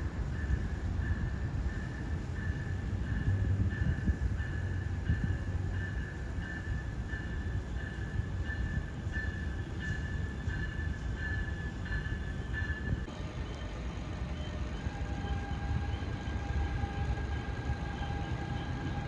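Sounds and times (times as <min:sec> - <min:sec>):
train passing with low rumble: 0:00.0 - 0:19.0.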